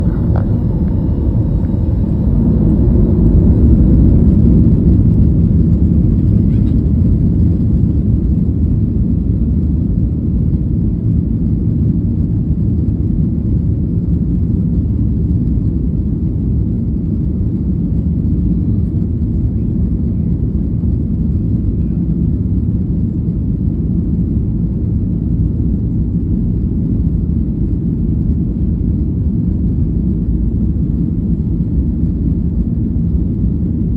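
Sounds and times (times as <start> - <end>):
airplane engines roaring: 0.0 - 33.9.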